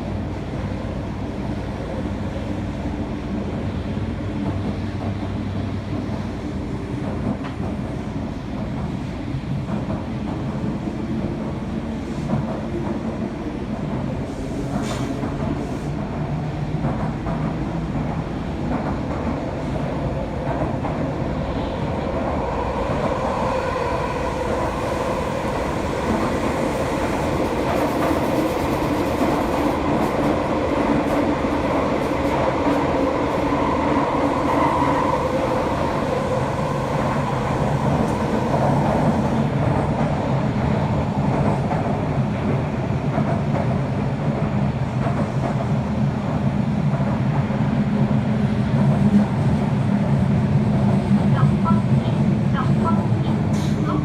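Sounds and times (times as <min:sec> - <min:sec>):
subway train rumbling roar: 0:00.0 - 0:54.0.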